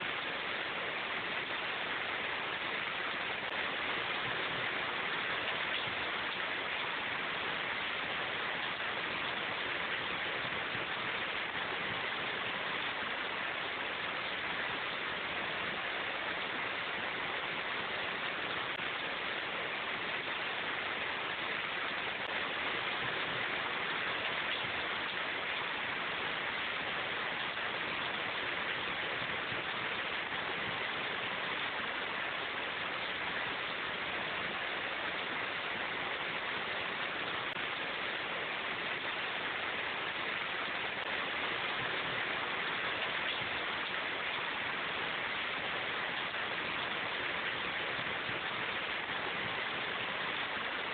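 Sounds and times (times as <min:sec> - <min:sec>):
rain falling on leaves: 0:00.0 - 0:50.9.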